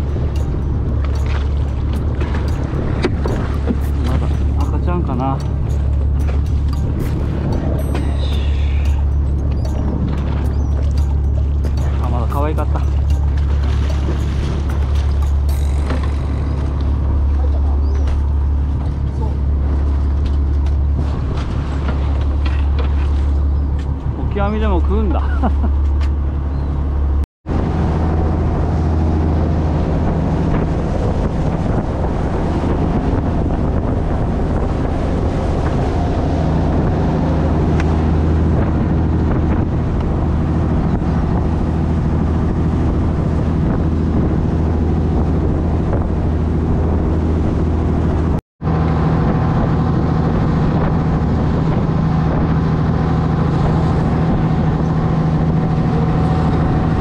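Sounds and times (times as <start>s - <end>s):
boat engine humming: 0.0s - 57.0s
water rushing along hull: 0.0s - 57.0s
wind on microphone: 0.0s - 57.0s.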